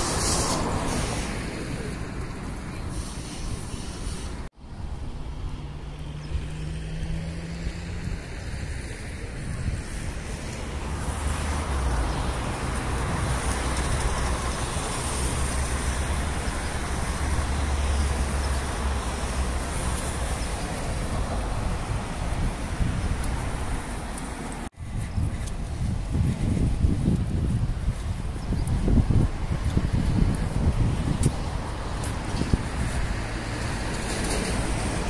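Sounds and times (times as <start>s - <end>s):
cars passing on road: 0.0s - 35.0s.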